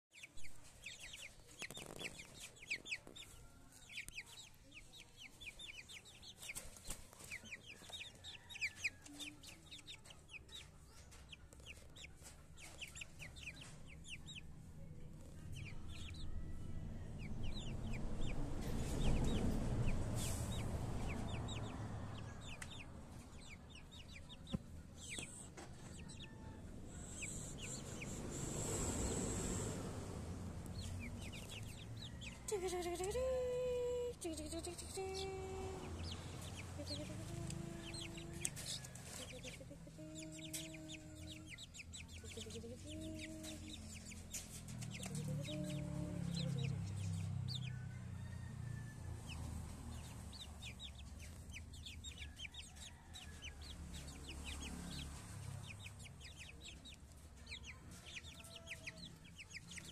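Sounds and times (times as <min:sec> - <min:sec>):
chicks peeping: 0:00.1 - 0:59.9.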